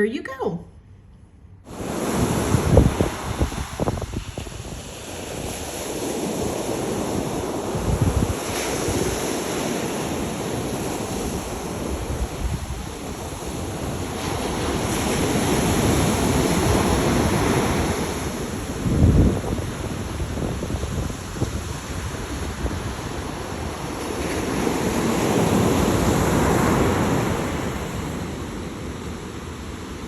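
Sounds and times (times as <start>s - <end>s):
wind gusting on microphone: 1.7s - 29.6s
ocean surf washing onto beach: 1.7s - 30.0s.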